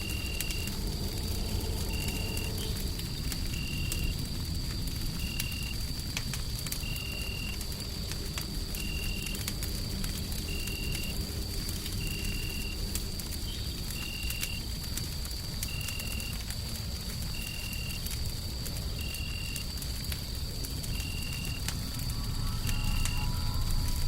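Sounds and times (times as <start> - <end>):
low white-noise rumble: 0.0 - 24.0
wood fire crackling: 0.0 - 24.0.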